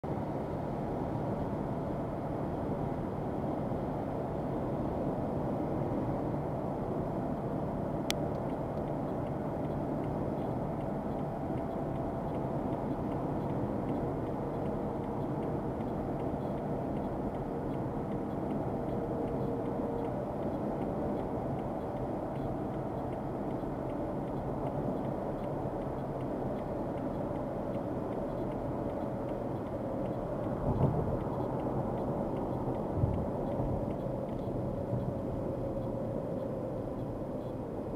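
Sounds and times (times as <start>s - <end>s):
car road and engine noise: 0.0s - 37.9s
faint steady drone: 0.1s - 37.9s.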